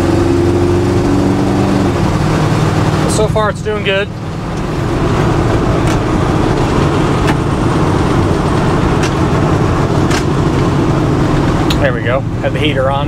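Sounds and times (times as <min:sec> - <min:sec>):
car engine running: 0:00.0 - 0:13.0
road and tyre noise: 0:00.0 - 0:13.0.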